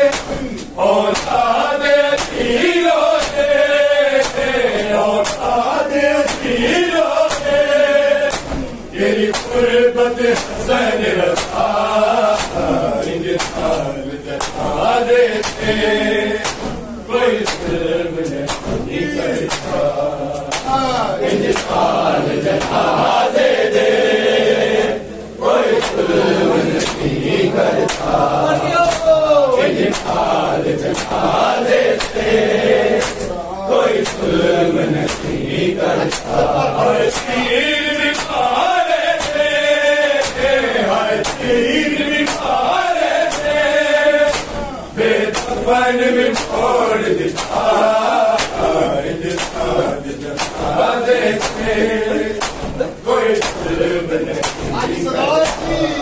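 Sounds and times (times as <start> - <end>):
hands slapping chests: 0.0 - 9.7, 10.3 - 23.8, 25.6 - 33.4, 34.0 - 45.6, 46.2 - 49.8, 50.4 - 51.8, 52.4 - 53.8, 54.4 - 54.8, 55.4 - 55.8
men chanting in unison: 0.0 - 56.0.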